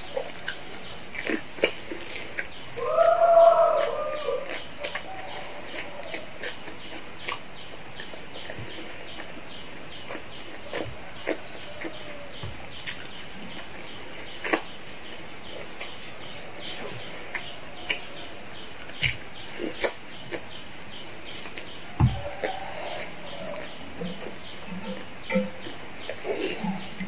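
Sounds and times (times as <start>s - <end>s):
chewing fries: 0.0s - 27.0s
high chirping: 2.3s - 27.0s.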